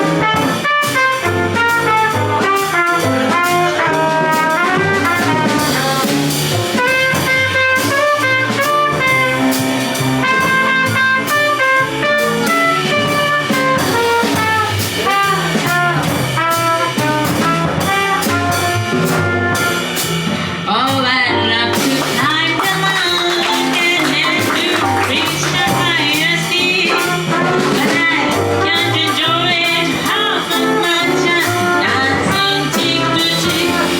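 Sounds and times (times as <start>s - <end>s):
horns playing melody: 0.0s - 20.4s, 21.7s - 33.9s
drum kit: 0.0s - 33.9s.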